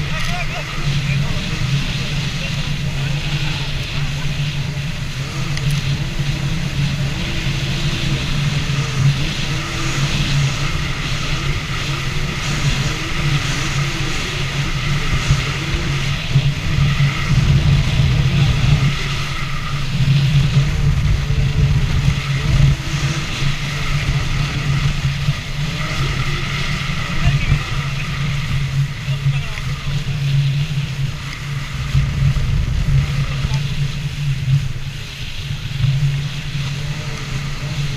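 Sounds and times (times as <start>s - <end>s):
jet ski engine droning: 0.0s - 37.9s.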